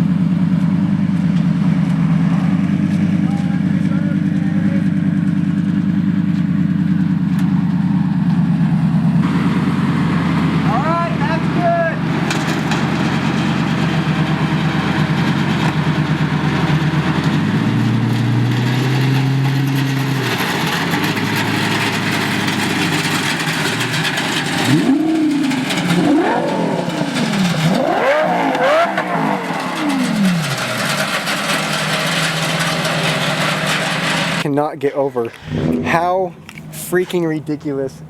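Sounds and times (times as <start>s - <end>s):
sports car engine idling and revving: 0.0s - 34.5s, 35.3s - 38.0s.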